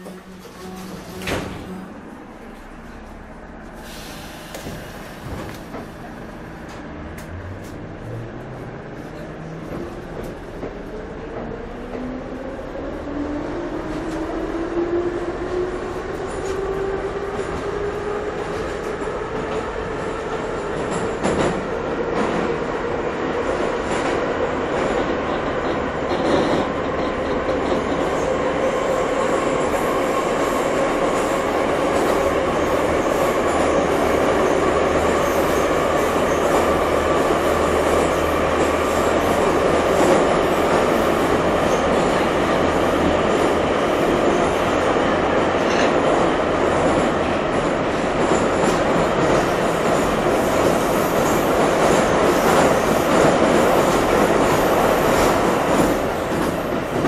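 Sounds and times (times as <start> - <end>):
train carriage rumble and rattle: 0.0 - 57.0.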